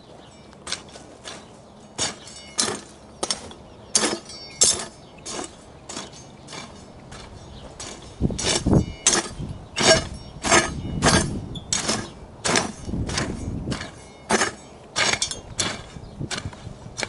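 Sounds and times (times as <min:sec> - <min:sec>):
hoe chopping into soil: 0:00.6 - 0:17.0.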